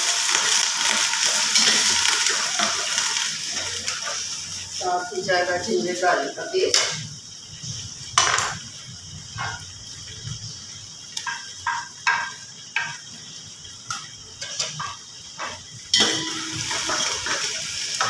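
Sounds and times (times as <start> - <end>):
loud sizzle in hot oil: 0.0 - 18.0.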